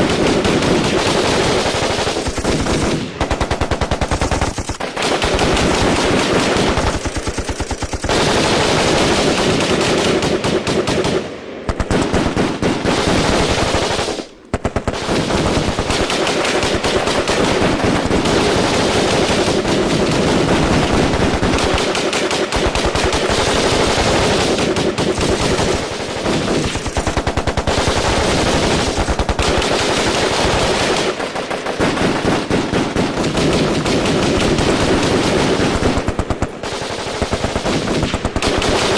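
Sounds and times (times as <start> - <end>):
automatic gunfire bursts: 0.0 - 38.9.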